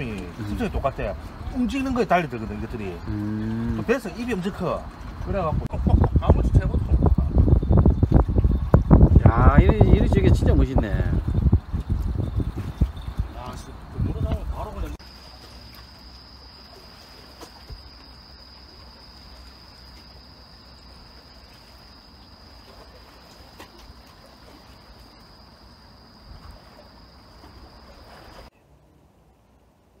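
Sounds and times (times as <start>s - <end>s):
water moving under deck: 0.0s - 28.5s.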